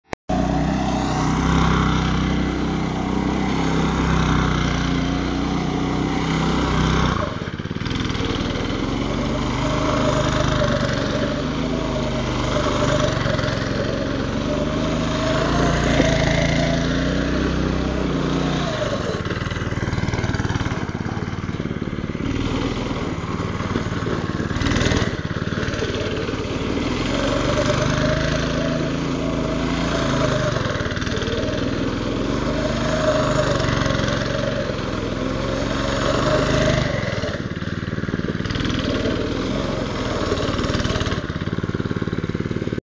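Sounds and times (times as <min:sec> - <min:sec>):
small go-kart engine revving: 0:00.3 - 0:42.8.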